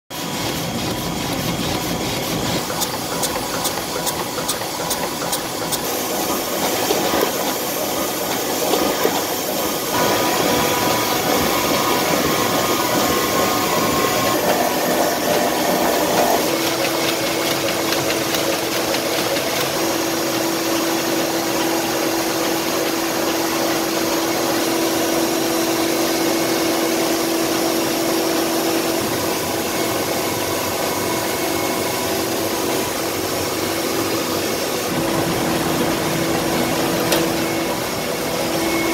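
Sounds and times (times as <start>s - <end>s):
printing press humming and hissing: 0.1s - 38.9s.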